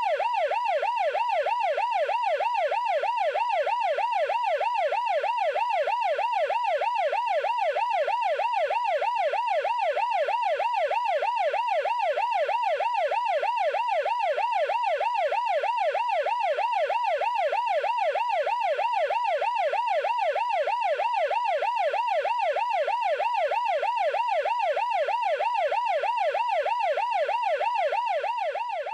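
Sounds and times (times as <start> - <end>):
siren yelping: 0.0 - 28.9.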